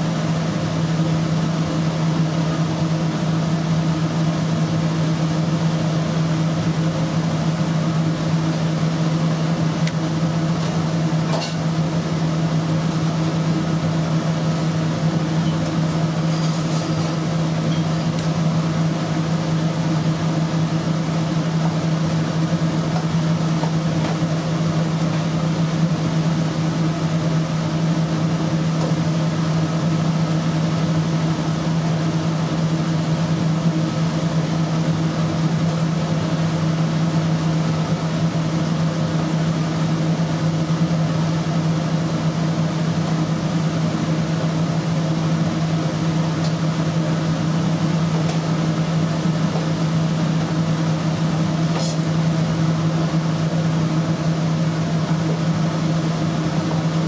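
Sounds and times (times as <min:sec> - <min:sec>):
ventilation fan humming: 0:00.0 - 0:57.0.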